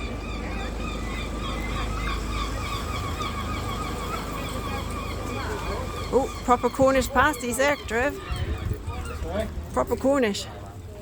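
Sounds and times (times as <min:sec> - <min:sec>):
gull calling: 0:00.0 - 0:09.2.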